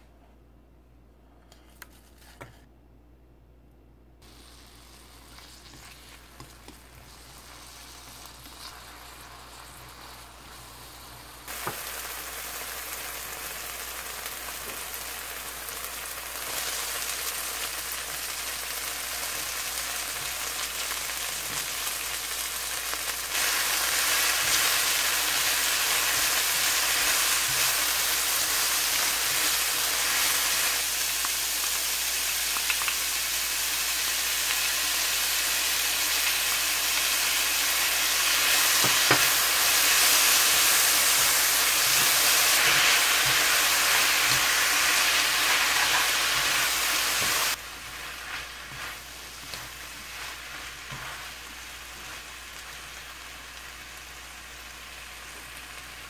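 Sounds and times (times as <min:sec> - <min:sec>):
garlic sizzling in hot oil: 0:04.2 - 0:56.0.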